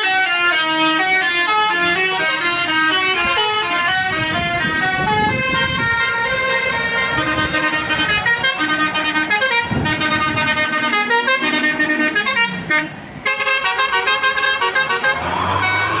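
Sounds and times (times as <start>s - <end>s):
bus air horn playing a tune: 0.0s - 16.0s.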